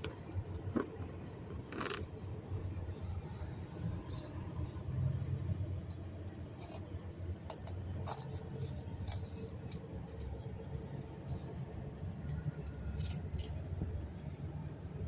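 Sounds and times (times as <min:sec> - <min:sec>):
vehicle engine running unevenly: 0:00.0 - 0:15.0.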